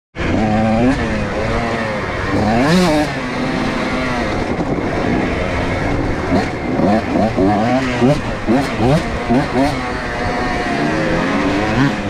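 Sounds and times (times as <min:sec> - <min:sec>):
two-stroke dirt bike engine revving: 0:00.2 - 0:12.0.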